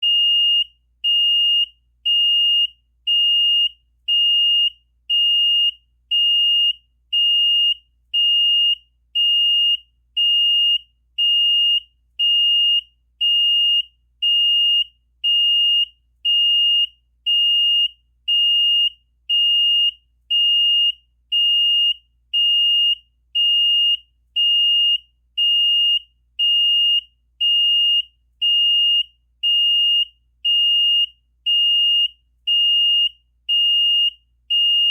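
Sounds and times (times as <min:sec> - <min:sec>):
fire alarm panel buzzer beeping: 0:00.0 - 0:34.9.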